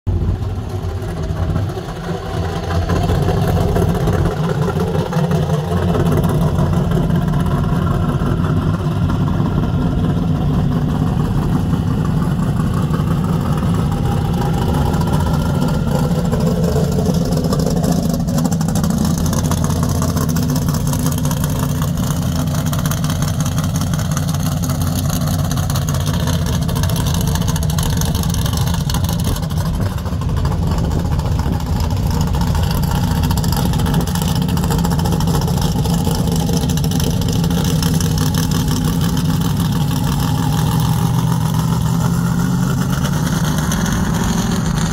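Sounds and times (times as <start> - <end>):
car engine idling loudly: 0.0 - 44.9.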